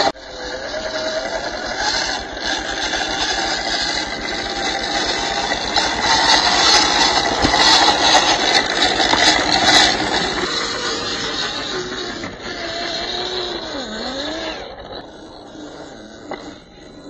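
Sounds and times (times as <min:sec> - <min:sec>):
electric motor and gearbox whining: 0:00.0 - 0:17.0
tyres and chassis rattling: 0:00.0 - 0:17.0.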